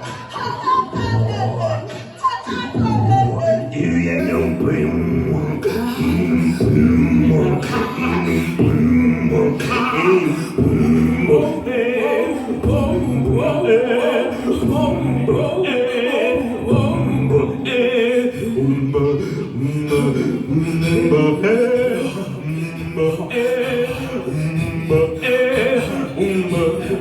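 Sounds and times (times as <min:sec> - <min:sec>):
beatboxed mouth percussion: 0:00.0 - 0:27.0
voices singing a cappella: 0:00.0 - 0:27.0.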